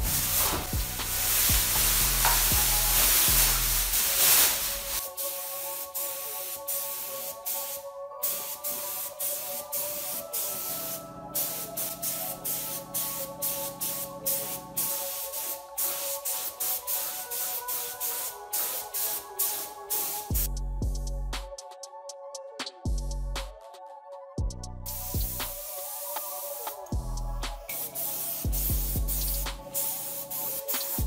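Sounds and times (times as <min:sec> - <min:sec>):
paint spray gun hissing: 0:00.0 - 0:20.5, 0:24.9 - 0:31.0
background music with beat: 0:00.0 - 0:31.0.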